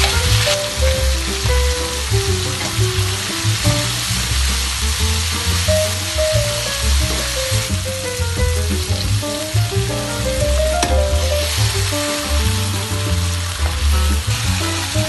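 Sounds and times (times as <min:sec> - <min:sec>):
music with melody and bass beat: 0:00.0 - 0:15.0
sambal sizzling in a wok: 0:00.0 - 0:15.0.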